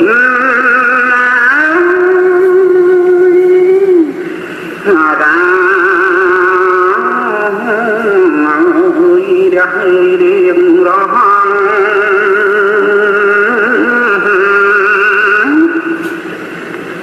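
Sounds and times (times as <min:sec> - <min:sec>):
person singing with vibrato: 0:00.0 - 0:16.4.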